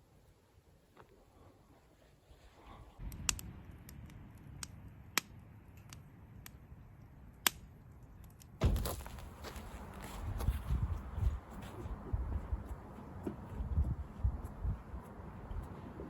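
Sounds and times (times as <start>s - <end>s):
campfire crackling: 0.2s - 16.0s.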